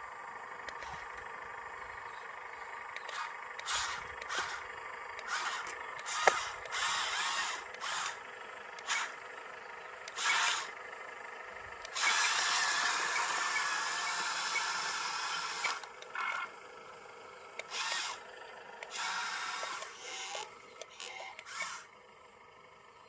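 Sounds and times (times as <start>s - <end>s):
electric motors whirring: 0.6s - 11.0s, 11.6s - 16.6s, 17.4s - 22.0s.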